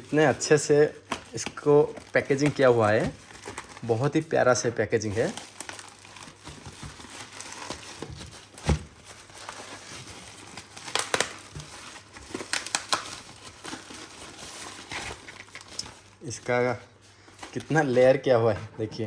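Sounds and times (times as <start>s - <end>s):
packaging crumpling and tearing: 0.0s - 4.2s, 5.0s - 16.4s.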